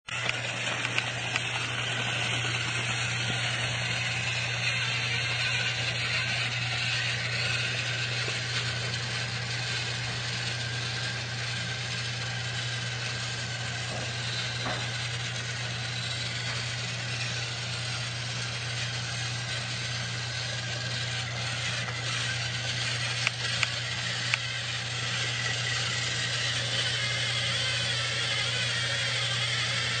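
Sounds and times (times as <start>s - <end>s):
toy train motor humming: 0.0s - 30.0s.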